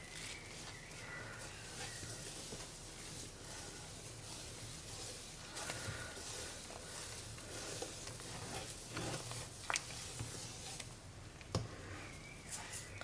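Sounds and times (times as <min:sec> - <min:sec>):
wet swishing of stirring: 0:00.0 - 0:13.0.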